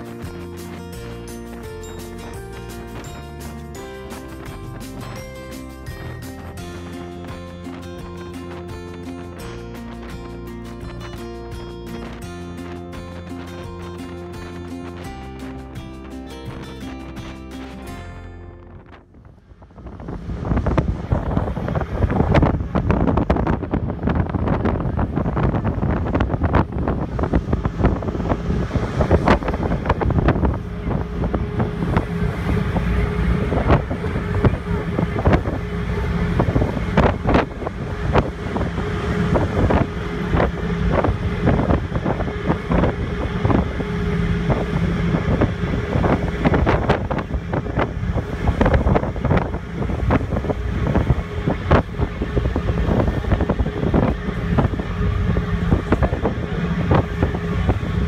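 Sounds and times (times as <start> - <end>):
boat engines humming: 0.0 - 58.0
wind buffeting the microphone: 0.0 - 58.0.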